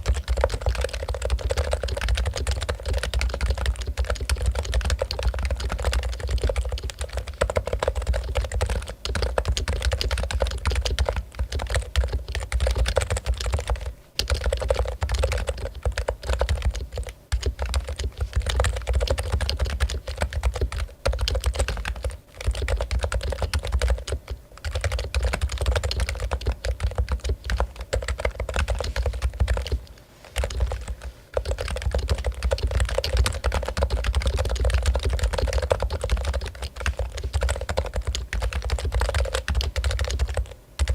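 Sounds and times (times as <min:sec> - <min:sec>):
muted keyboard typing: 0:00.0 - 0:40.9.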